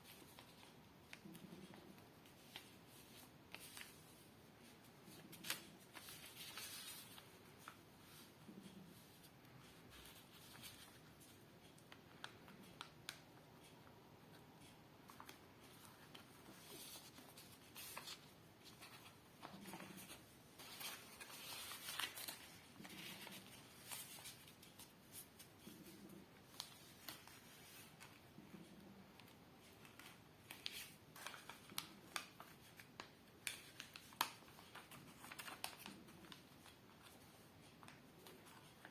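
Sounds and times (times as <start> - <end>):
paper rustling and crinkling: 0.0 - 13.2, 15.0 - 38.9.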